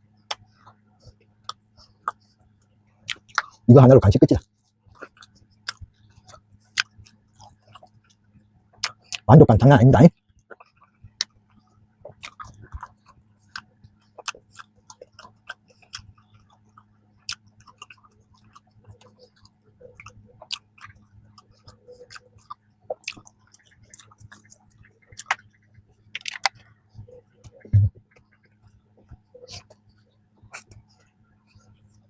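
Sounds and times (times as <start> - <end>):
faint low hum: 0.0 - 32.0
wet chewing mouth clicks: 3.0 - 3.7, 4.9 - 8.2, 8.8 - 9.3, 10.4 - 31.8.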